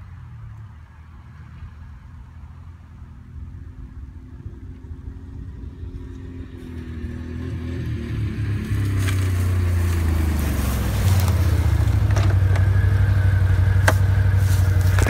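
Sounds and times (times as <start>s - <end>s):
distant quad engines running: 0.0s - 15.0s.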